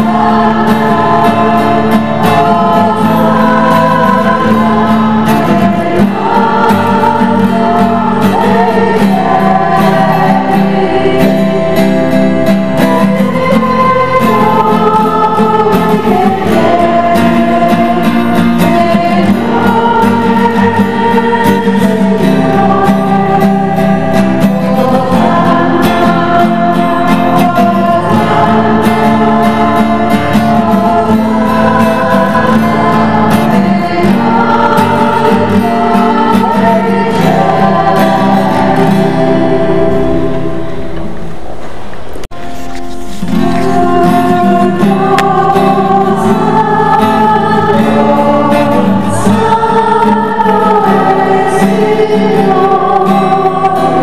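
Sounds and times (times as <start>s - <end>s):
choir singing long notes: 0.0s - 41.8s, 42.5s - 54.0s
steady musical accompaniment: 0.0s - 54.0s.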